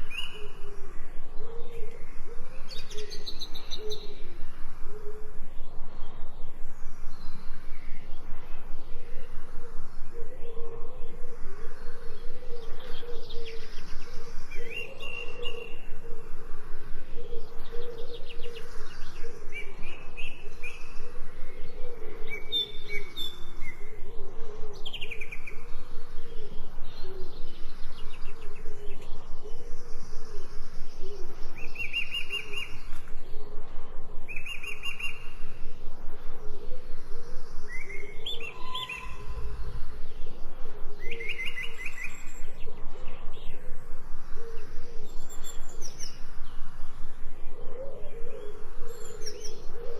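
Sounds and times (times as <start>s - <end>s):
small birds chirping and trilling: 0.0s - 49.9s.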